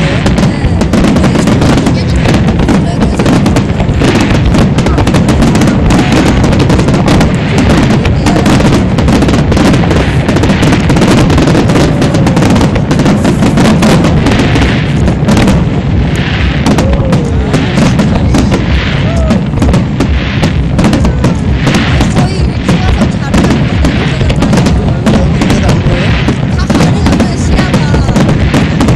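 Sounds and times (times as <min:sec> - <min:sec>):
fireworks bursting: 0:00.0 - 0:28.9
fireworks crackling: 0:00.0 - 0:28.9.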